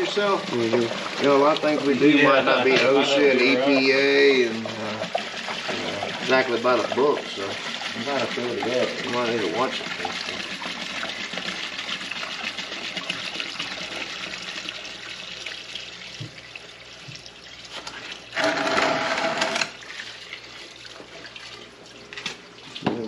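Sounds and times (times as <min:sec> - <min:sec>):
water gushing: 0:00.0 - 0:23.0
water running at a sink: 0:00.0 - 0:23.0.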